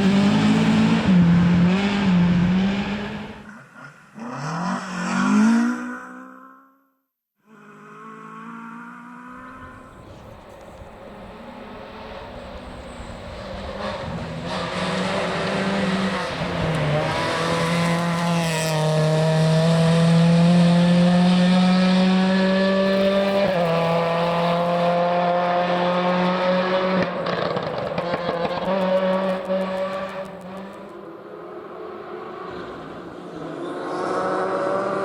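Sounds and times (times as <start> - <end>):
rally car engine accelerating: 0.0 - 6.7, 7.5 - 31.1.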